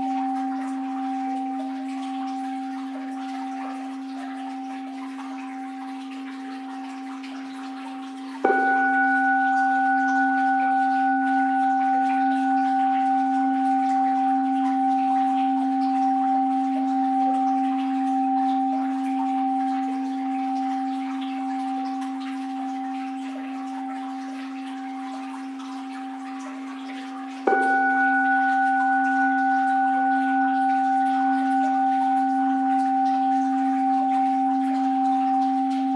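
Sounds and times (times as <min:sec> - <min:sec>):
bowl bell ringing: 0:00.0 - 0:35.9.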